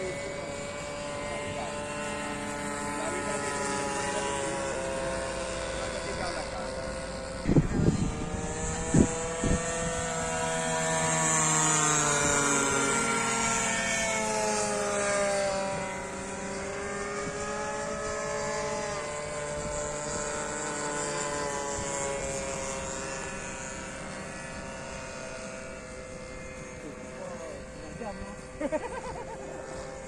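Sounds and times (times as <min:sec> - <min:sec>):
model plane motors droning: 0:00.0 - 0:30.0.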